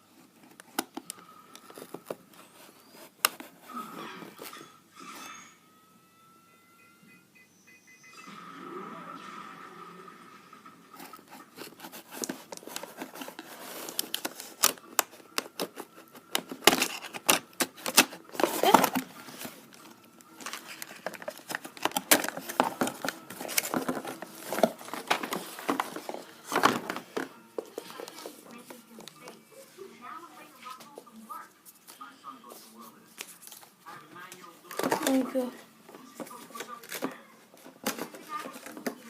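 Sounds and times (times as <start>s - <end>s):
rustling and crinkling: 0.0s - 4.8s, 10.9s - 39.0s.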